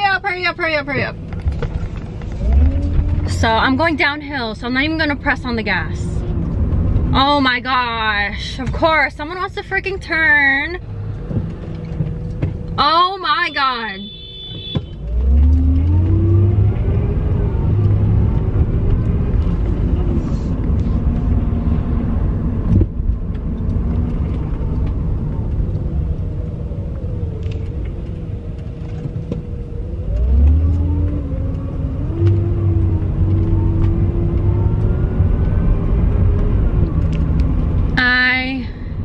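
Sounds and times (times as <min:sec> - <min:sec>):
car engine: 0:00.0 - 0:39.0
road rumble: 0:00.0 - 0:39.0.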